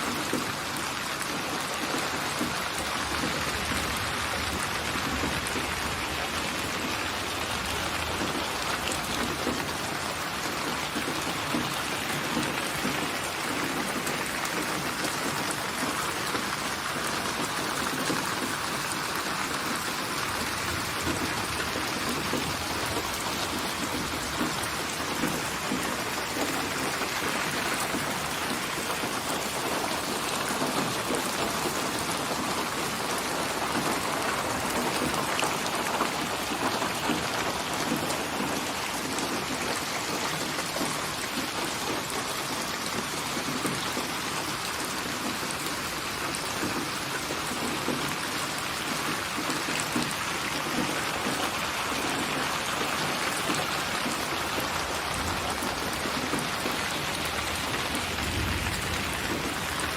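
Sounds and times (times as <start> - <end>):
rain pattering on a surface: 0.0 - 59.9.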